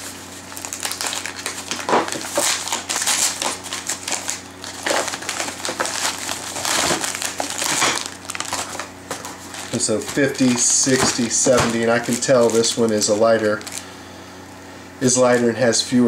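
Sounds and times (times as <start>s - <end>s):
paper envelope ripping: 0.0s - 13.9s.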